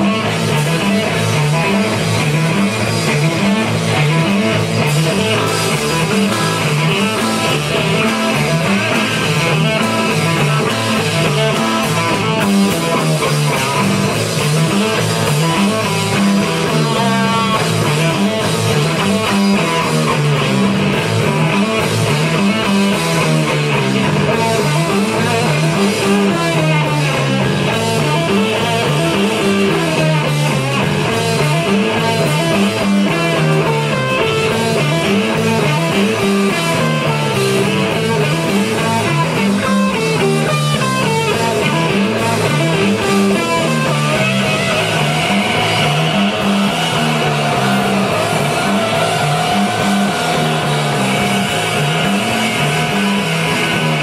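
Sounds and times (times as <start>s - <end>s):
drums: 0.0s - 54.0s
electric guitars: 0.0s - 54.0s
rock band playing: 0.0s - 54.0s.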